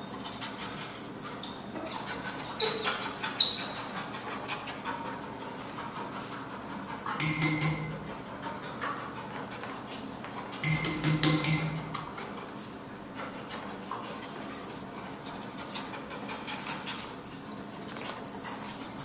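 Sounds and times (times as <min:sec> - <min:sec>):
dog panting: 0:00.1 - 0:07.4, 0:08.0 - 0:10.6, 0:12.0 - 0:19.0.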